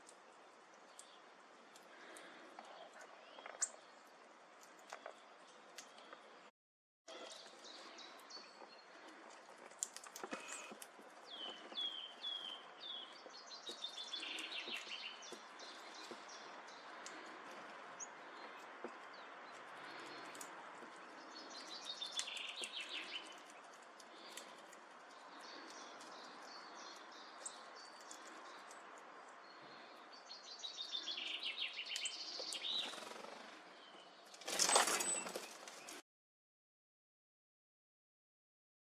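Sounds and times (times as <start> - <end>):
outdoor background noise: 0.0 - 6.5, 7.1 - 36.0
wild birds calling and singing: 0.0 - 6.5, 7.1 - 36.0.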